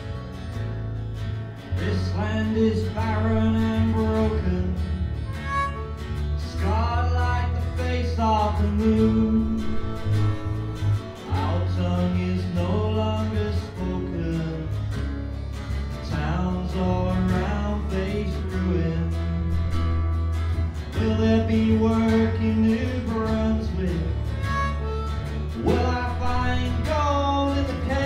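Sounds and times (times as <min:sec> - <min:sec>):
acoustic folk song with guitar: 0:00.0 - 0:28.0.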